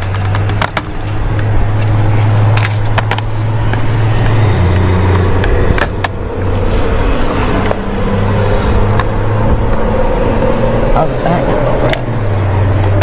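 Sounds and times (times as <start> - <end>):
steady low rumble: 0.8 - 13.0.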